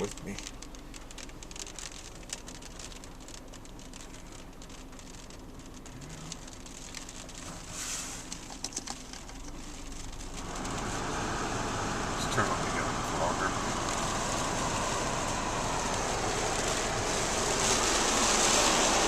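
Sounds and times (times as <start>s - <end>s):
rain pattering on car roof: 0.0s - 19.0s.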